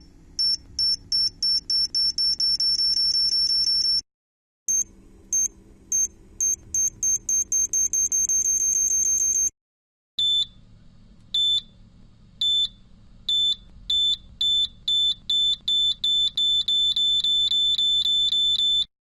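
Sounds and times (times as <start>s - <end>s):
bomb timer beeping: 0.4s - 4.0s, 4.7s - 9.5s, 10.2s - 10.6s, 11.4s - 11.7s, 12.4s - 18.9s.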